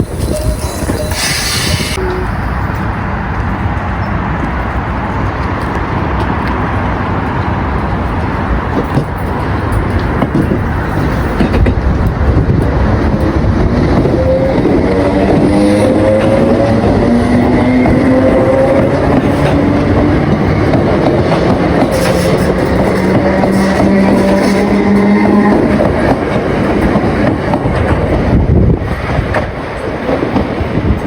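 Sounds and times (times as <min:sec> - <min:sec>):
train rumbling on rails: 0:00.0 - 0:31.0.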